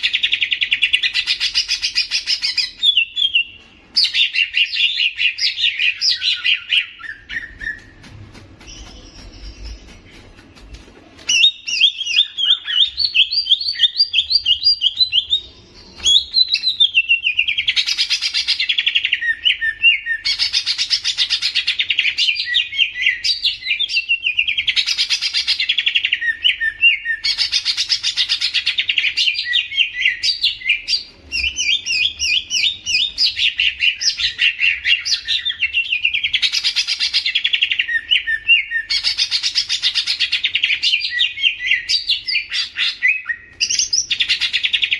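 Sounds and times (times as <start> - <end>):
songbird chattering song: 0.0 - 44.9.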